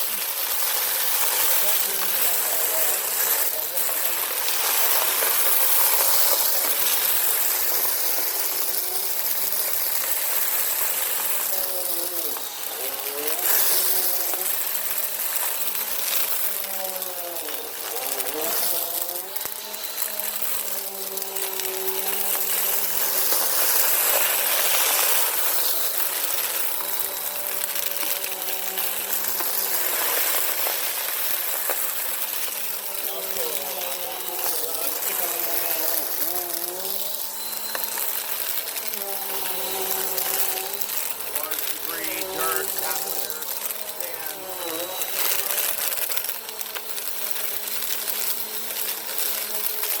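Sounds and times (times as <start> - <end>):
upright vacuum running: 0.0 - 46.0
debris rattling through nozzle: 0.0 - 50.0.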